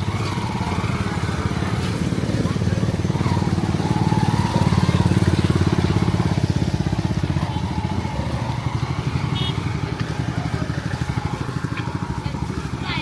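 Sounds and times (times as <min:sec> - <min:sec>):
engine throbbing: 0:00.0 - 0:13.0.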